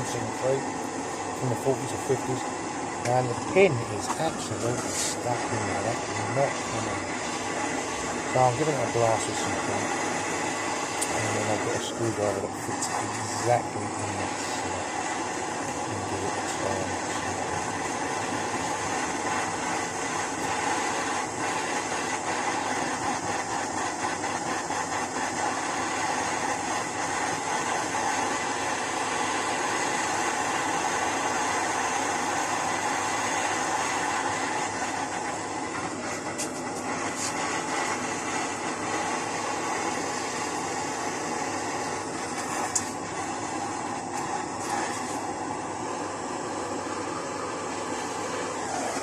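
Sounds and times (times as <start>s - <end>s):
machine hum and hiss: 0.0s - 49.0s.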